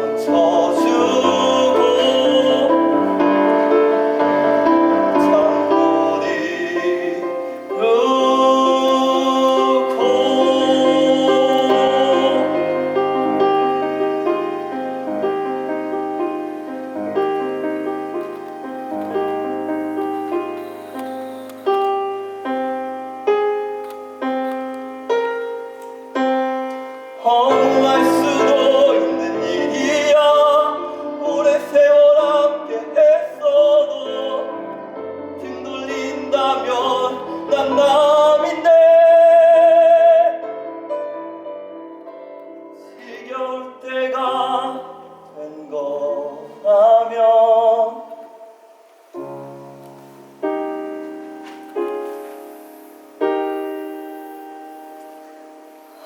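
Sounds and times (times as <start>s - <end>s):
person singing with vibrato: 0.0s - 23.0s, 25.4s - 40.8s, 42.7s - 49.4s
piano accompaniment: 0.0s - 56.0s.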